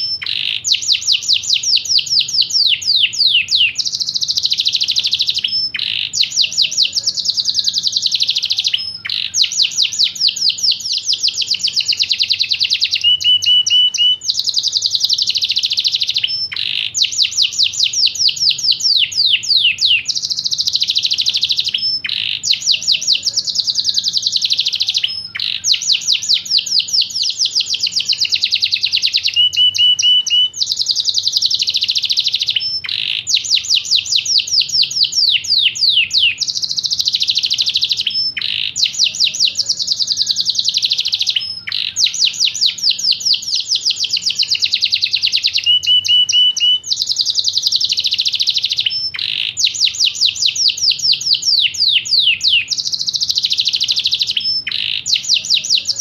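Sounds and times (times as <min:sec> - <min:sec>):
canary singing rapid trills: 0:00.0 - 0:56.0.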